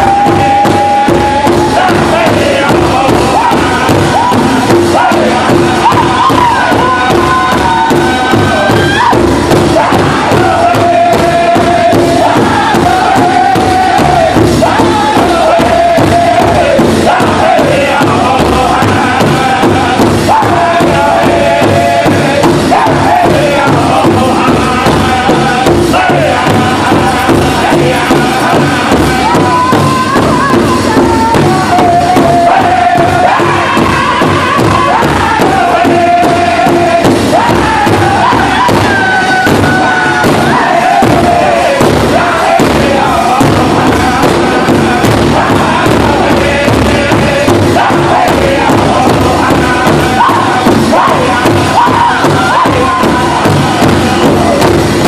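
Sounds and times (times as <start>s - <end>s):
group singing in unison: 0.0s - 55.0s
large drum beating: 0.0s - 55.0s.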